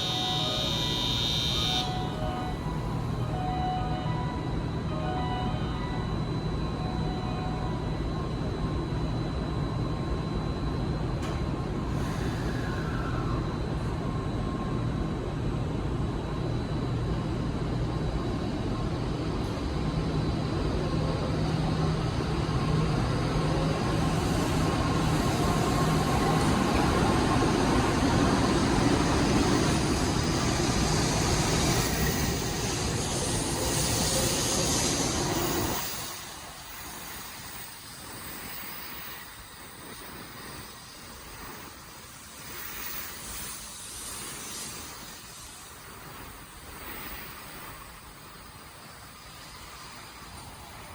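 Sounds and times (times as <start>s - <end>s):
train rumbling past: 0.0s - 50.9s.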